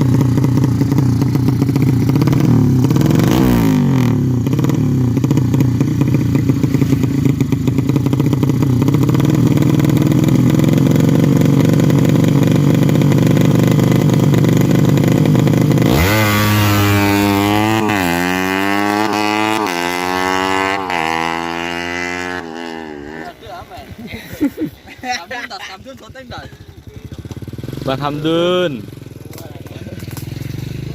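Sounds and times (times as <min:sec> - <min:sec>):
motorcycle engine revving: 0:00.0 - 0:24.8, 0:25.4 - 0:30.9.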